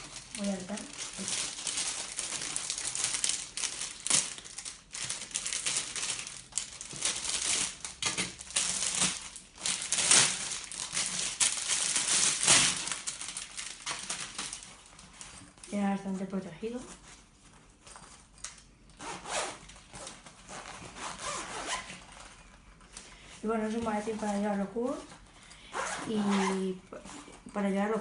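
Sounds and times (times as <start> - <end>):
plastic wrapping crinkling: 0.0 - 28.0.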